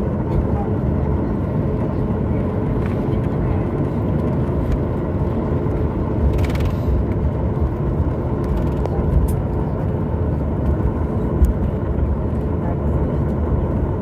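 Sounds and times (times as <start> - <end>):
aircraft cabin rumble: 0.0 - 14.0.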